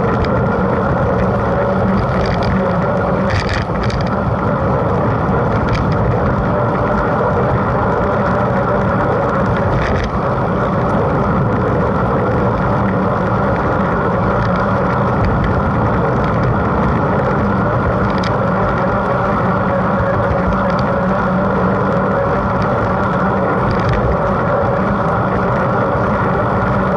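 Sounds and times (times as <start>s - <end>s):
faint ticks: 0.0s - 7.2s, 7.9s - 26.9s
bike tyres rolling: 0.0s - 26.9s.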